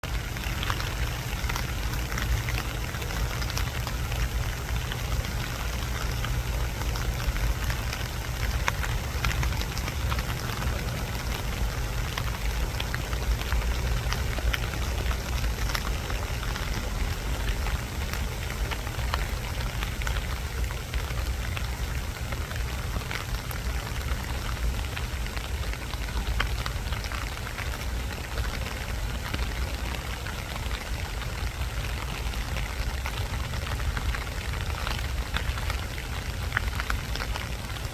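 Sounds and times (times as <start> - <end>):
rain hissing: 0.0 - 37.9
raindrops ticking: 0.0 - 37.9.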